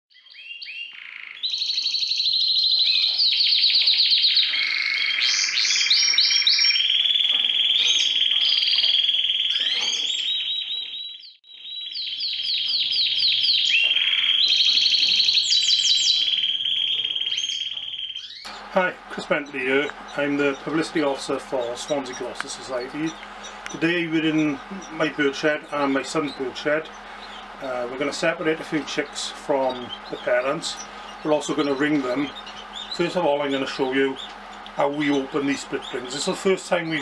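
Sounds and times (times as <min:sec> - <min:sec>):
canary singing trills: 0:00.1 - 0:37.0.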